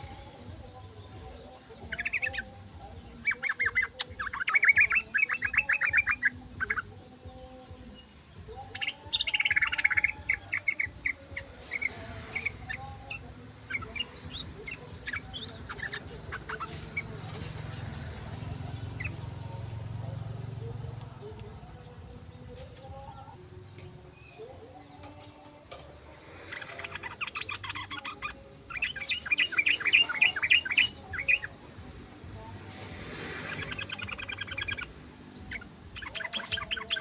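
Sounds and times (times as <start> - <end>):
bulbul chattering song: 0.0 - 37.0.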